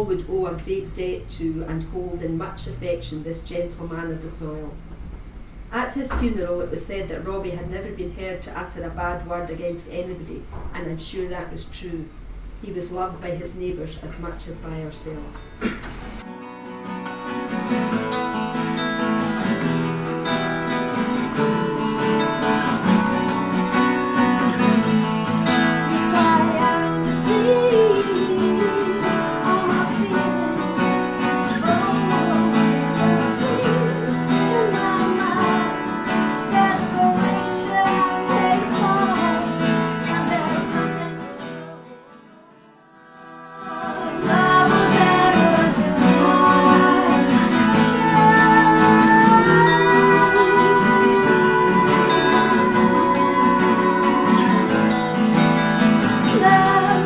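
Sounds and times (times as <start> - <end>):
acoustic guitar band music: 0.0 - 57.0.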